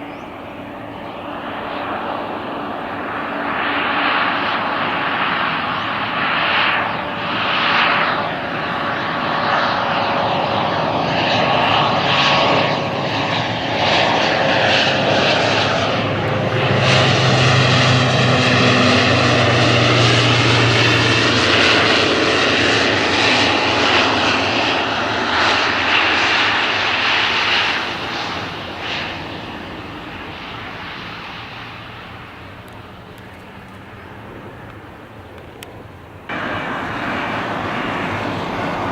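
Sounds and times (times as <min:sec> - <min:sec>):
airliner passing: 0:00.0 - 0:38.9.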